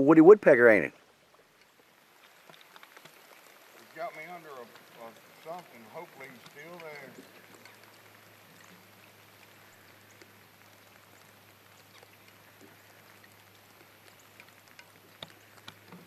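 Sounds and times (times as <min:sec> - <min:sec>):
faint ticks: 0:01.3 - 0:16.0.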